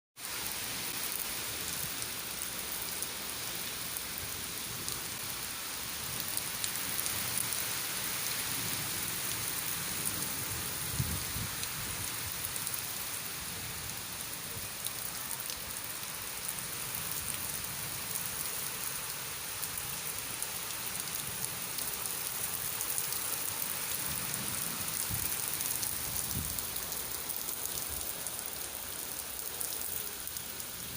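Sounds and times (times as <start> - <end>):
rain falling: 0.2 - 30.9.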